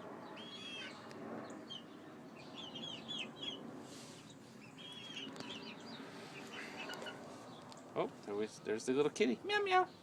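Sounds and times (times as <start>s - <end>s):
chicks peeping: 0.2s - 9.2s.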